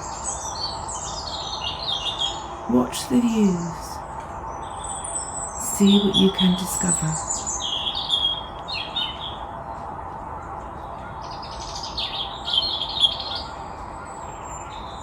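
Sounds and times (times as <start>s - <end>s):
songbirds chirping: 0.0s - 15.0s
steady background hiss: 0.0s - 15.0s.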